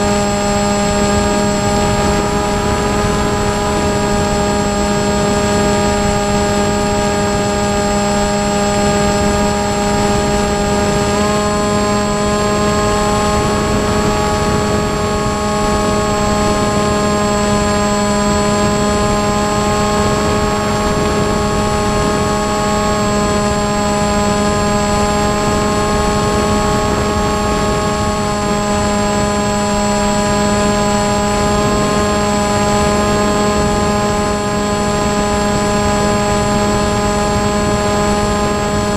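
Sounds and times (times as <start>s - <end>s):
electric motor and propeller whine: 0.0s - 38.9s
rushing air noise: 0.0s - 38.9s.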